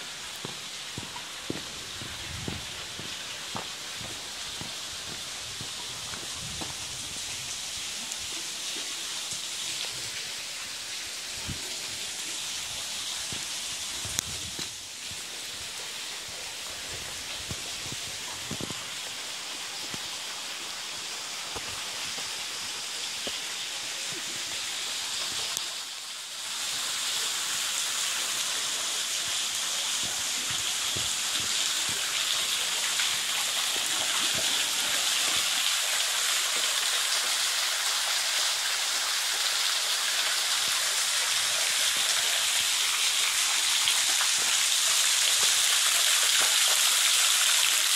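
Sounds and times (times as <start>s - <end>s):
water falling and dripping: 0.0s - 47.9s.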